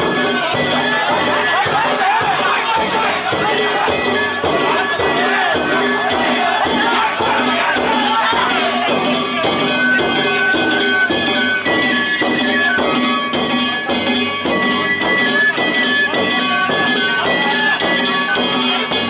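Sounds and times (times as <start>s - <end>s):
bamboo flute melody: 0.0s - 19.0s
drum strikes: 0.0s - 19.0s.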